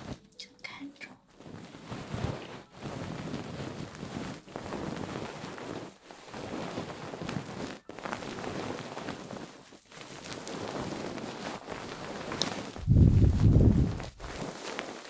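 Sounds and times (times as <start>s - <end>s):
rustling and scrubbing on microphone: 0.0s - 0.4s, 1.0s - 15.0s.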